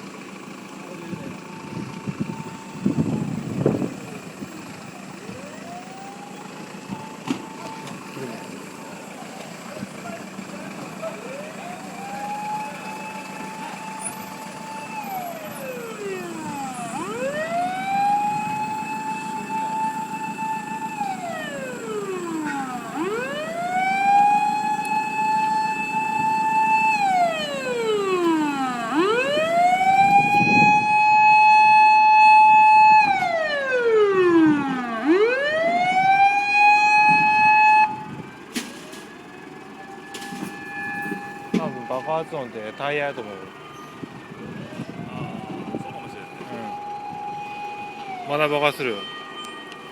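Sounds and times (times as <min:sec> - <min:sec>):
fire engine siren wailing: 0:00.0 - 0:49.9.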